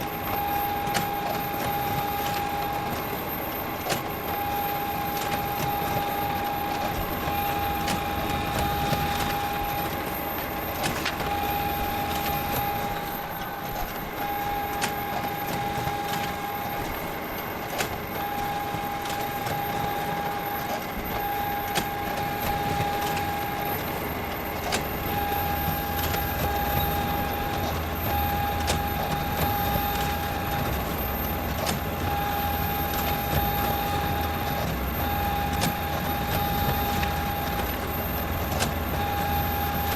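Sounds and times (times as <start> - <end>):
mechanical hum: 0.0 - 39.9
photocopier whine: 0.0 - 39.9
scattered clicks: 0.0 - 39.9.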